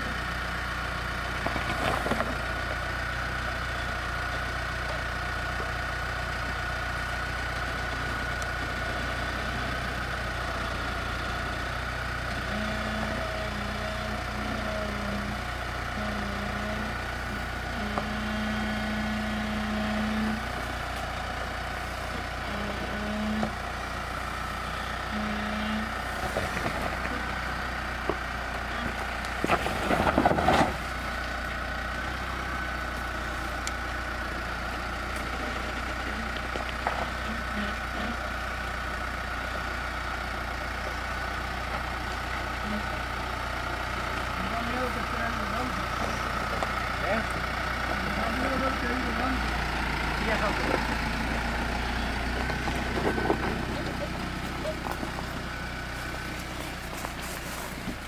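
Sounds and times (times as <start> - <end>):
vehicle engine running low: 0.0 - 58.0.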